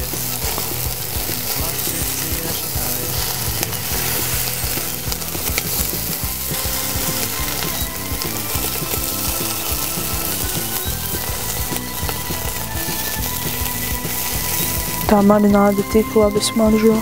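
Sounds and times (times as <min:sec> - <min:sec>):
chicken sizzling on a grill: 0:00.0 - 0:17.0
music with rhythmic bass line: 0:00.0 - 0:17.0.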